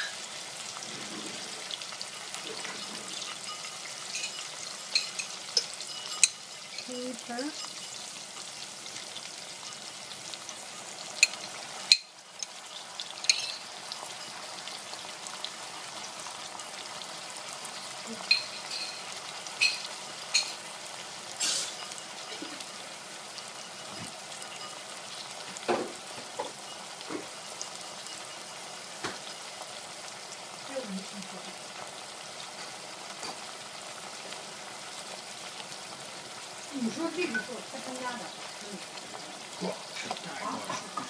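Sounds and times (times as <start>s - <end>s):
vegetables sizzling in hot oil: 0.0s - 41.0s.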